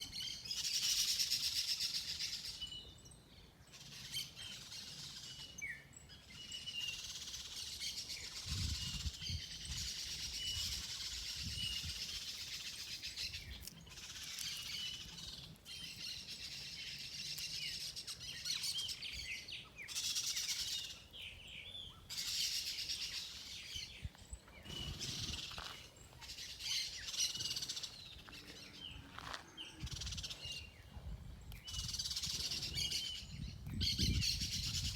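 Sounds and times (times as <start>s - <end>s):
birds chirping and singing: 0.0s - 34.9s.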